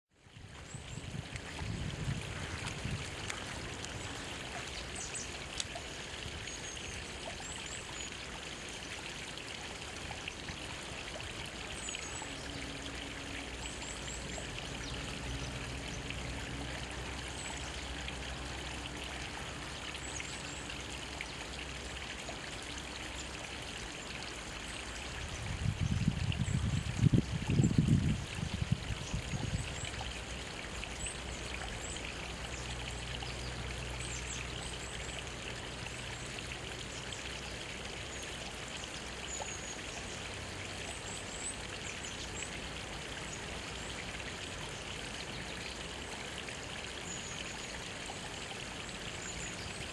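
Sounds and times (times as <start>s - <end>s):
stream trickling over rocks: 0.1s - 49.9s.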